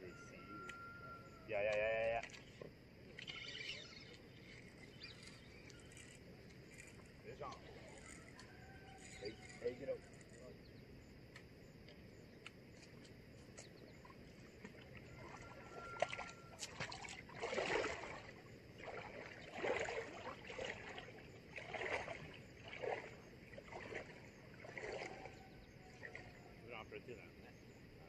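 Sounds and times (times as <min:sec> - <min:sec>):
legs wading through water: 0:02.0 - 0:10.2, 0:11.8 - 0:26.6.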